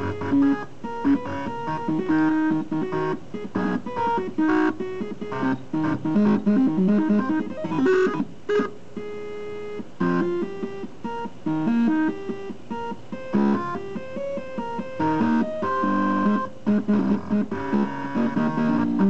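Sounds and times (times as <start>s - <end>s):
stepper motors playing a tune: 0.0s - 19.0s.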